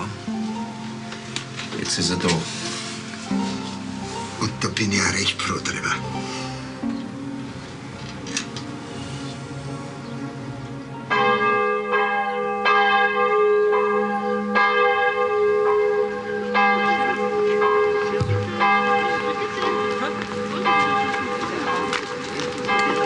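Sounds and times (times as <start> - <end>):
church bells ringing: 0.0 - 6.2, 10.5 - 23.0.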